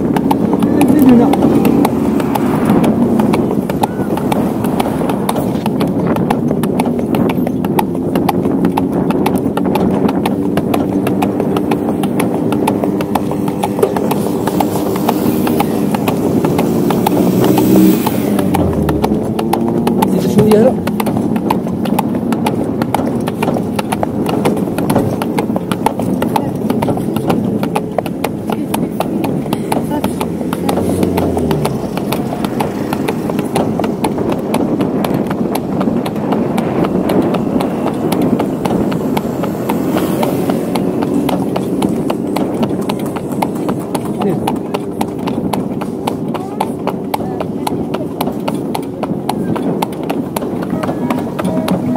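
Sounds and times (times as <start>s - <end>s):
carriage wheels rumbling: 0.0s - 51.9s
hooves clip-clopping on pavement: 0.0s - 51.9s.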